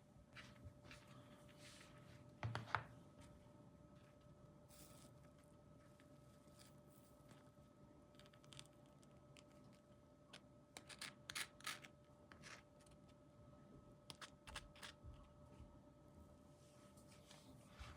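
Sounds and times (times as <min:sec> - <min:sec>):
low steady hum: 0:00.0 - 0:17.9.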